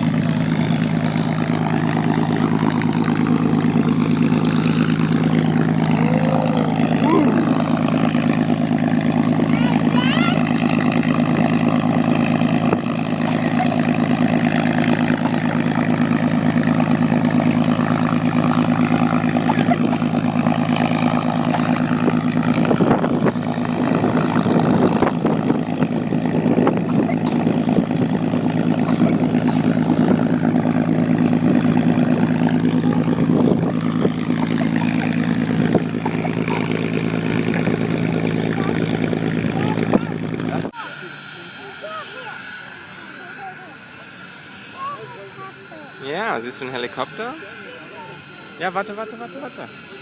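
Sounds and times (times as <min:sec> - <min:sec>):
aircraft engine drone: 0:00.0 - 0:50.0.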